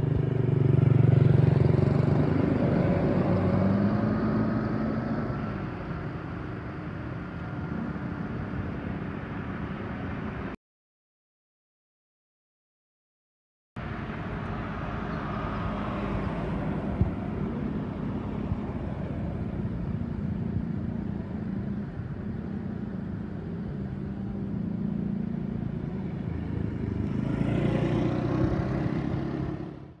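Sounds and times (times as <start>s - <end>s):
passing traffic: 0.0s - 10.6s, 13.8s - 30.0s.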